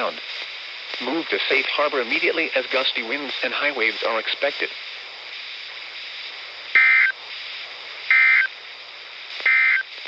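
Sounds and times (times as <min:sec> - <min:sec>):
radio hiss: 0:00.0 - 0:10.0.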